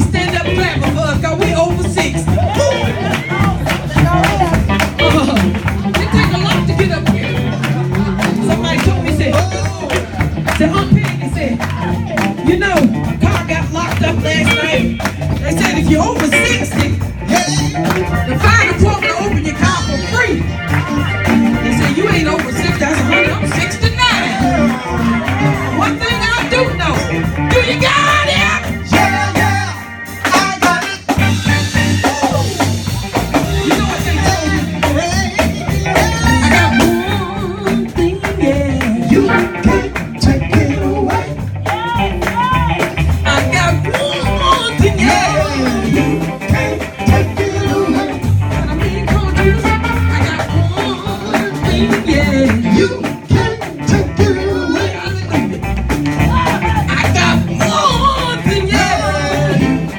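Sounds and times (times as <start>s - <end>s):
gospel band music: 0.0s - 59.9s
person singing: 0.0s - 59.9s.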